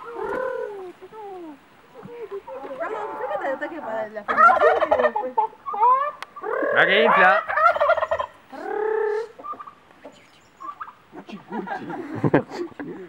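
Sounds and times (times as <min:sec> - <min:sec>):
turkeys gobbling: 0:00.0 - 0:01.0, 0:02.0 - 0:12.1.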